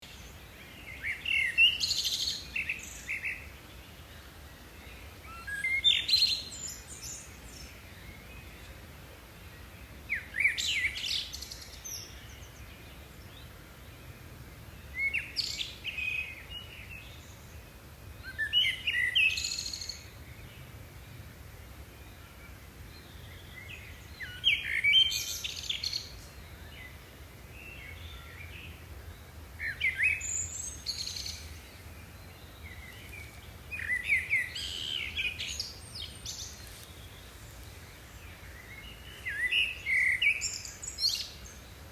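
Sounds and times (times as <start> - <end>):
songbird chirping and trilling: 0.0 - 21.2, 22.0 - 41.9.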